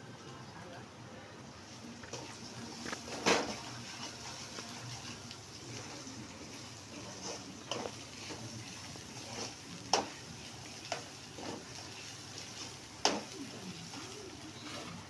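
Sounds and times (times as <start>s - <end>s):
food sizzling in a pan: 1.4s - 15.0s.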